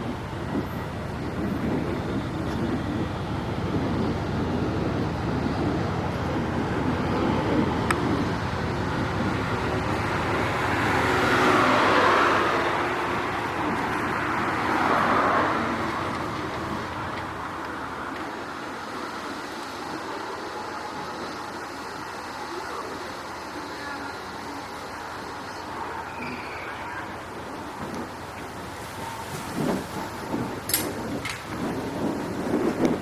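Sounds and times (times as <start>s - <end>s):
city street traffic: 0.0s - 33.0s
vehicles passing: 0.0s - 33.0s.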